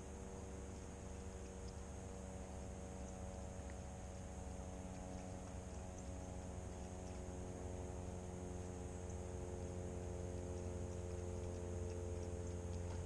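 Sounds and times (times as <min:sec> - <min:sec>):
trolling motor humming: 0:00.0 - 0:13.0.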